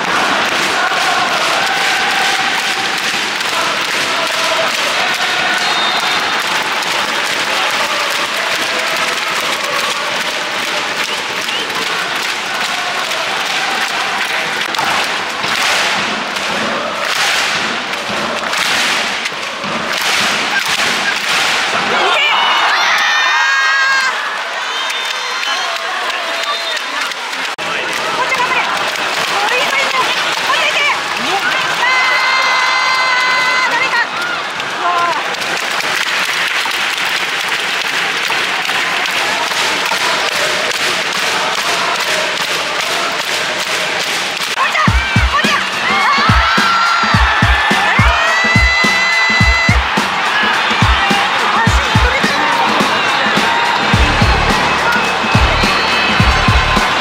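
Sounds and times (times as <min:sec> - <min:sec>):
crowd clapping and cheering: 0:00.0 - 0:57.0.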